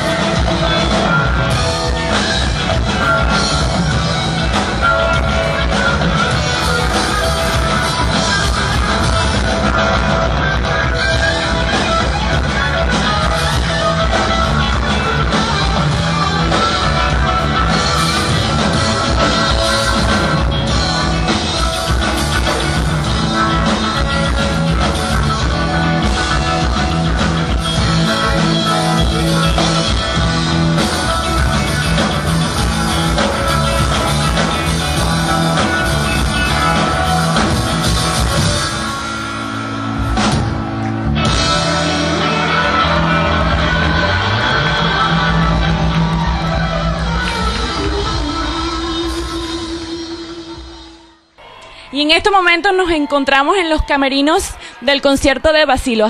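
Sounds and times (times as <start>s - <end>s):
drum kit: 0.0s - 51.6s
bass guitar: 0.0s - 51.8s
electric guitar: 0.0s - 51.9s.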